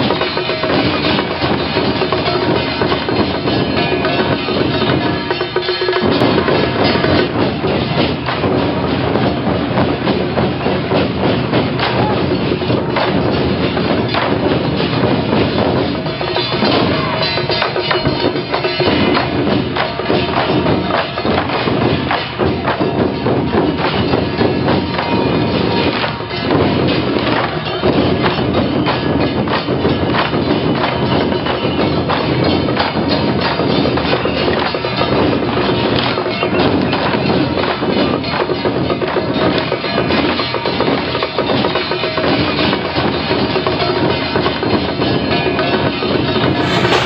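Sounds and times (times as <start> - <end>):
drums and clappers playing: 0.0 - 47.0
loud percussion music: 0.0 - 47.0.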